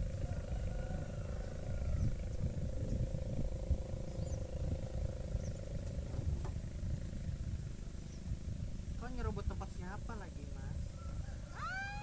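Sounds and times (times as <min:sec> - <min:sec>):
faint steady hum: 0:00.0 - 0:12.0
wind buffeting microphone: 0:00.0 - 0:12.0.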